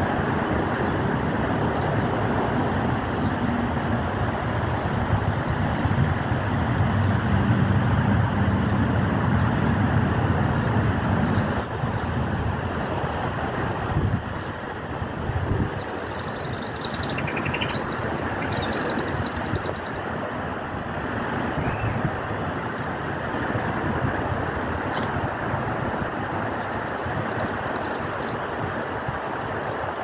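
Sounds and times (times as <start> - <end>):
passing vehicle rumble: 0.0 - 28.0.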